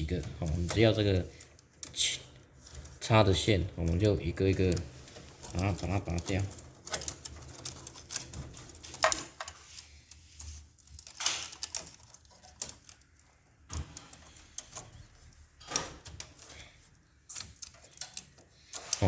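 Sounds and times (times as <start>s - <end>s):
plastic connectors clicking and rattling: 0.0s - 19.0s.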